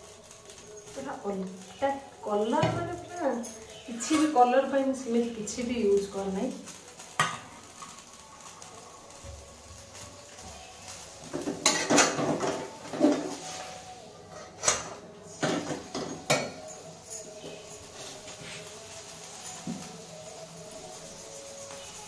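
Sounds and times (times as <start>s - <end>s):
metal pots and utensils clattering: 0.0s - 8.6s, 10.3s - 22.0s.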